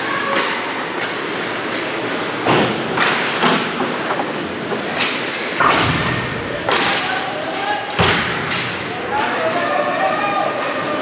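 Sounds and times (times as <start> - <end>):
hockey sticks and puck clacking: 0.2 - 9.9.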